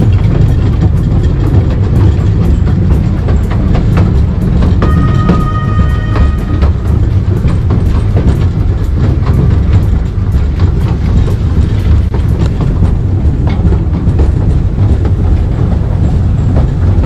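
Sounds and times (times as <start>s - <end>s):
train rumbling along track: 0.0s - 17.0s
wheels clacking over rails: 0.0s - 17.0s.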